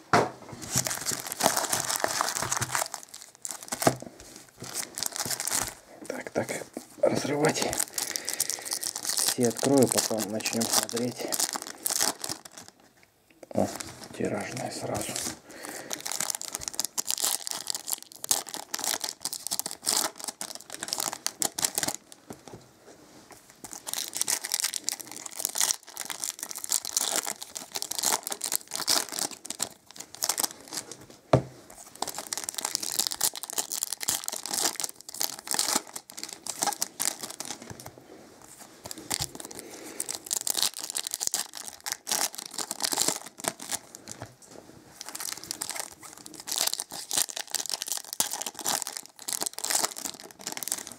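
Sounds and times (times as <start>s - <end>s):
foil packs tearing and crinkling: 0.7s - 4.0s, 4.6s - 5.8s, 7.2s - 12.7s, 13.6s - 22.0s, 23.6s - 30.9s, 31.8s - 37.7s, 38.8s - 44.2s, 45.0s - 50.9s.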